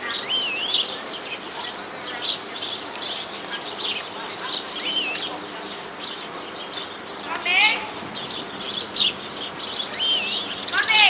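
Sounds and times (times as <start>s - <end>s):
finch twittering: 0.0s - 11.0s.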